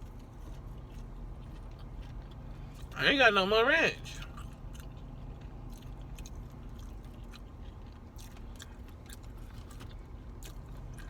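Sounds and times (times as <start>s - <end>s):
chewing and crunching taco: 0.0s - 11.0s.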